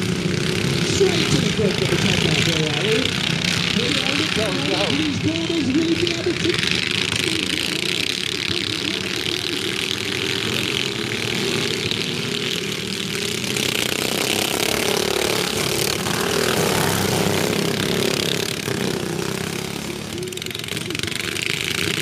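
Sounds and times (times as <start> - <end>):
ride-on lawn mower engines droning: 0.0 - 22.0.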